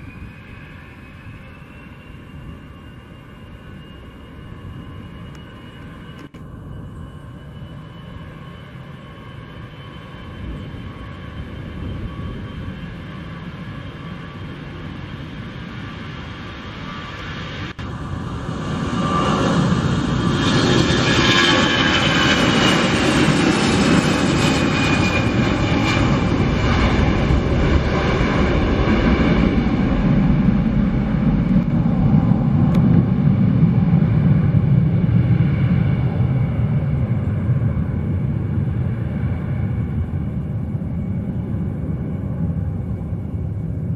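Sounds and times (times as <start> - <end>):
jet engine whine: 0.0 - 43.9
jet engines at takeoff power: 0.0 - 43.9.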